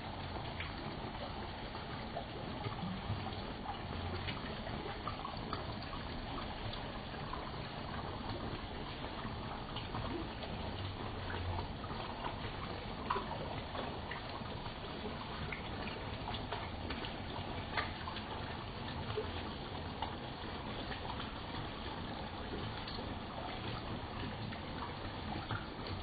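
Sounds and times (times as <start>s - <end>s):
pond water trickling and bubbling: 0.0s - 26.0s
small ticks and plops: 0.1s - 26.0s.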